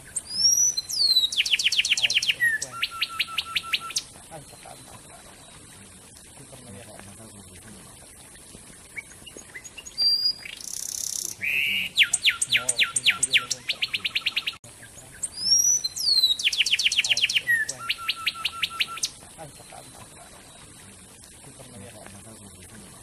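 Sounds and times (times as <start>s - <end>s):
wren singing: 0.0s - 5.9s, 8.9s - 22.4s.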